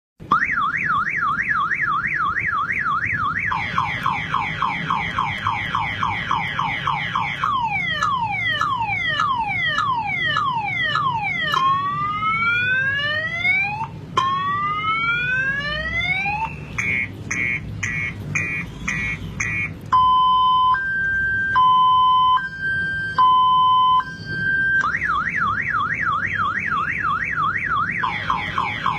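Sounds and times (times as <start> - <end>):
car alarm siren: 0.2 - 28.9.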